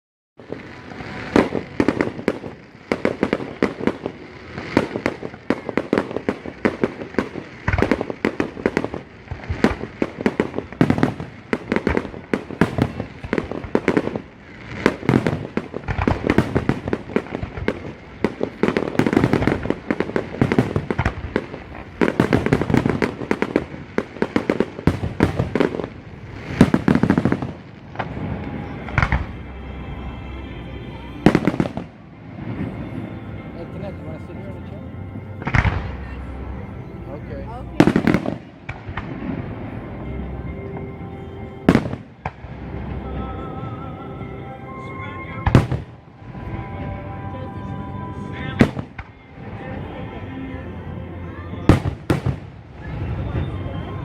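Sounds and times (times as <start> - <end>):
fireworks bursting and crackling: 0.4 - 54.0.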